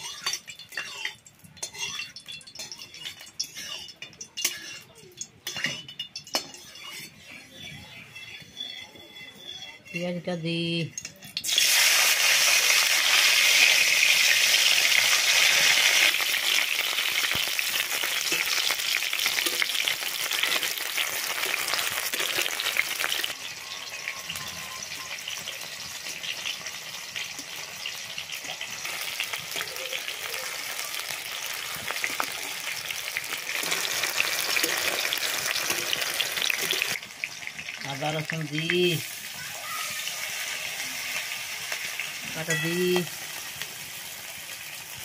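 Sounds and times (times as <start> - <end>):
vegetables sizzling in hot oil: 0.0 - 8.0, 11.0 - 45.0.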